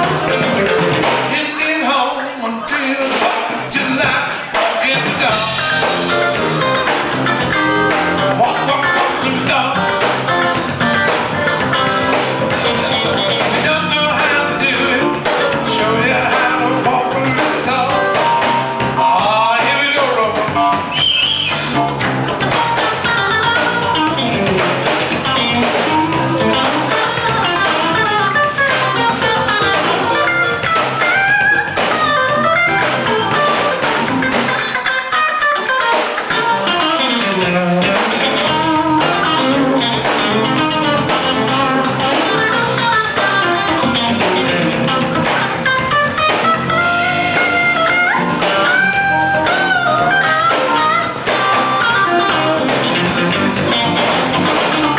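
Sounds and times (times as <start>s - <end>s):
electric guitar solo: 0.0s - 1.4s, 5.2s - 54.9s
bass and drums: 0.0s - 54.9s.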